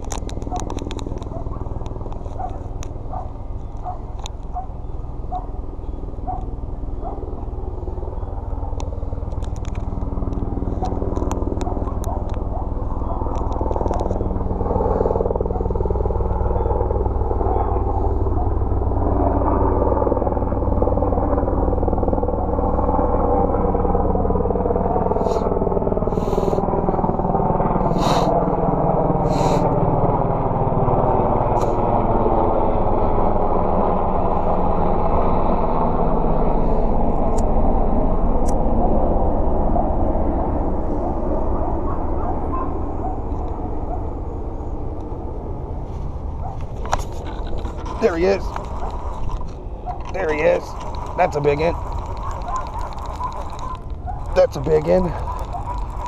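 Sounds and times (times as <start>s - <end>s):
vehicle engine rumble: 0.0s - 19.3s, 20.0s - 56.0s.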